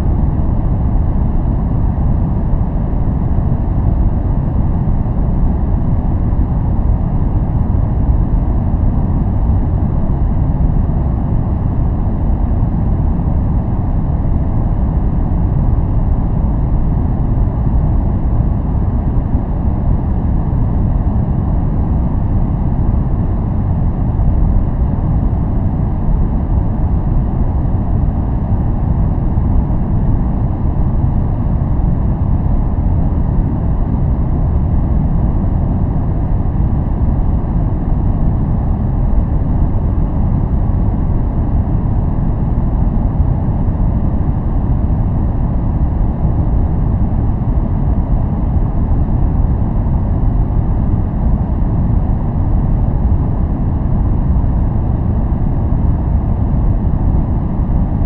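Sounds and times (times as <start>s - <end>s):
deep steady brown noise: 0.0s - 58.0s.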